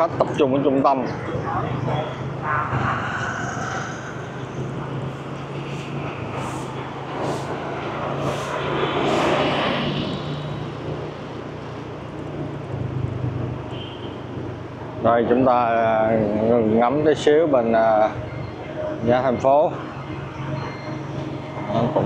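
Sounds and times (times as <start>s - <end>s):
motorbike engine hum: 0.0s - 22.0s
surrounding traffic: 0.0s - 22.0s.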